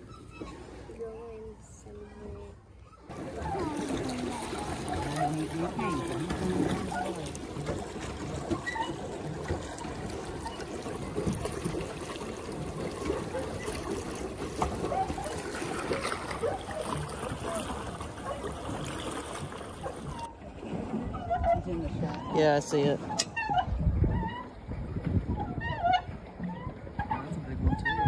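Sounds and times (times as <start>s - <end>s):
water churning around paddle wheel: 0.0s - 28.0s.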